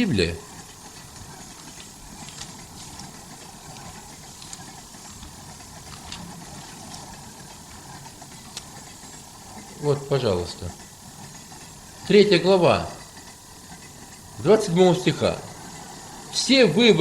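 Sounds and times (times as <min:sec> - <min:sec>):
train carriage rumble: 0:00.0 - 0:16.5.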